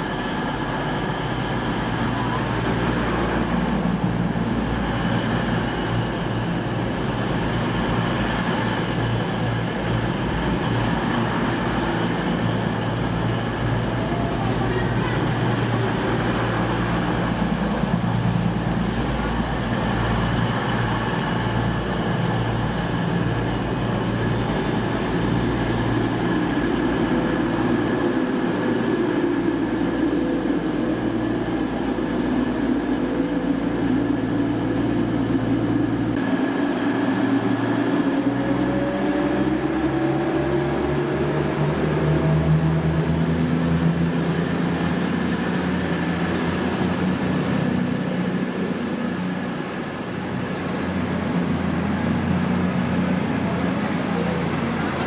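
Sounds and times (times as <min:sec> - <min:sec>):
train rumbling: 0:00.0 - 0:55.0
train whine rising: 0:00.0 - 0:55.0.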